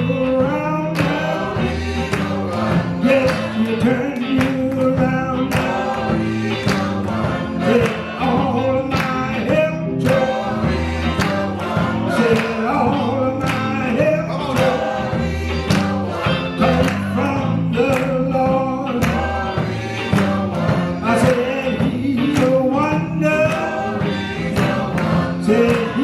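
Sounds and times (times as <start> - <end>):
gospel choir singing: 0.0 - 26.0
instrumental accompaniment with beat: 0.0 - 26.0.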